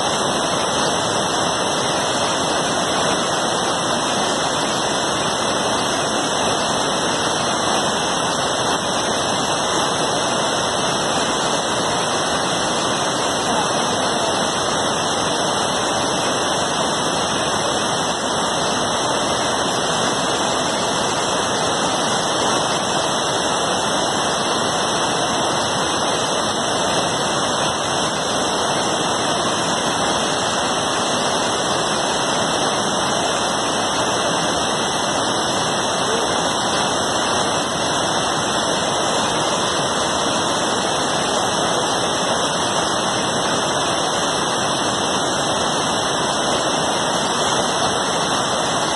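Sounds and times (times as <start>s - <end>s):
water rushing down spillway: 0.0s - 48.9s.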